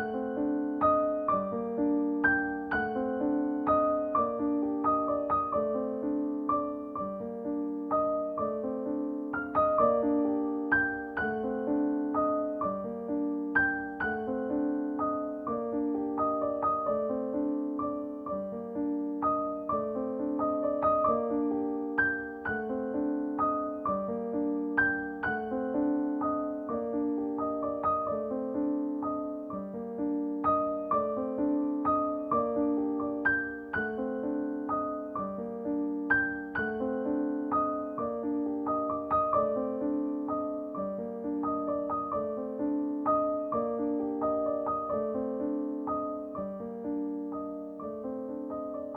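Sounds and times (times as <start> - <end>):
soft solo piano music: 0.0 - 48.9.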